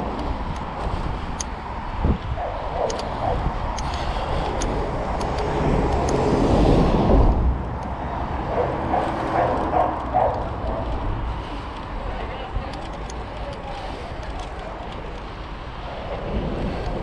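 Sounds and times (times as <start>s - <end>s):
vehicle passing: 0.0s - 17.0s
wind rumble on microphone: 0.0s - 17.0s.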